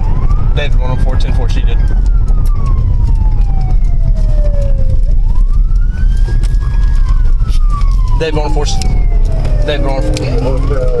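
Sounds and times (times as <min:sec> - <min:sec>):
moving car rumble: 0:00.0 - 0:11.0
police siren wailing: 0:00.0 - 0:11.0.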